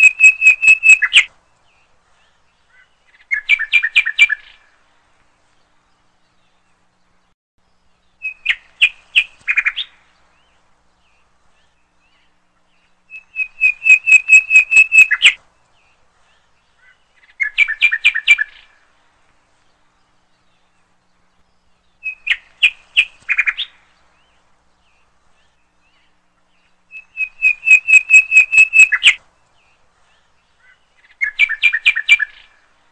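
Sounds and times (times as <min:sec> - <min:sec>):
bird chirping: 0:00.0 - 0:04.8, 0:05.4 - 0:32.9.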